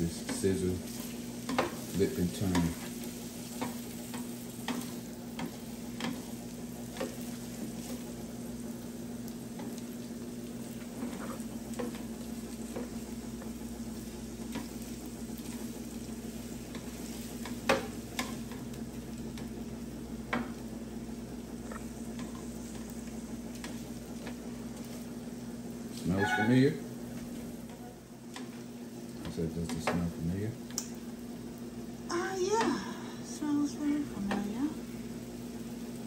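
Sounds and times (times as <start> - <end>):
food sizzling on a griddle: 0.0 - 36.0.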